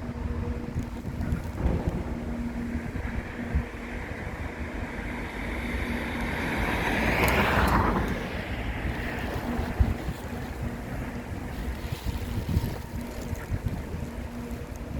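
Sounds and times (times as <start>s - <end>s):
wind buffeting microphone: 0.0s - 14.9s
rushing noise: 0.9s - 14.2s.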